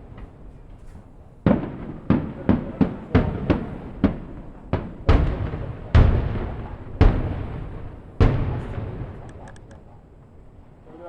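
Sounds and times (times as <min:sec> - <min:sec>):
fireworks bangs: 0:00.0 - 0:10.2.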